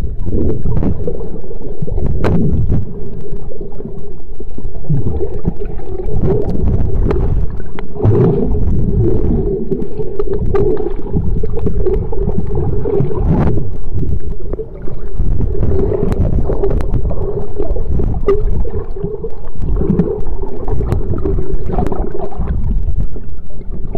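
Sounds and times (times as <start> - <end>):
muffled underwater gurgling: 0.0 - 23.9
steady low hum: 0.0 - 23.9.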